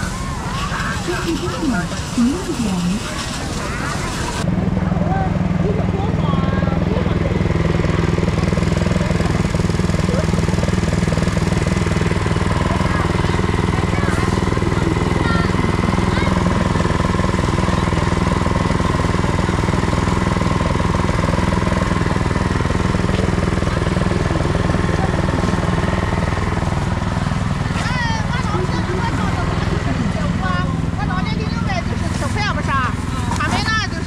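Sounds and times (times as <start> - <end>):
small gasoline engine running: 0.0 - 34.0.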